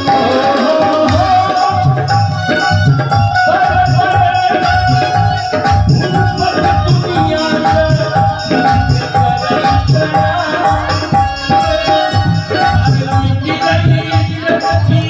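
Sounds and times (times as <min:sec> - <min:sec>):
hand drums beating: 0:00.0 - 0:15.0
held melody line: 0:00.0 - 0:15.0.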